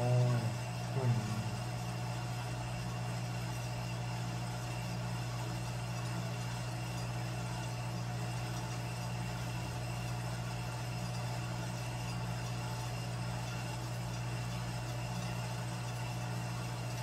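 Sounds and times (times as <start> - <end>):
coffee roaster mechanical hum: 0.0 - 17.0.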